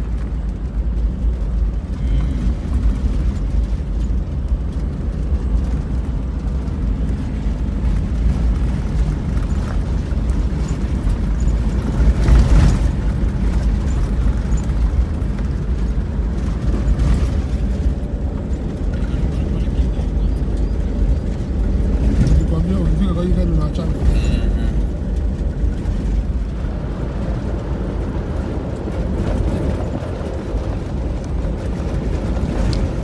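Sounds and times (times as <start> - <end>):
vehicle cabin rumble on dirt track: 0.0 - 33.0.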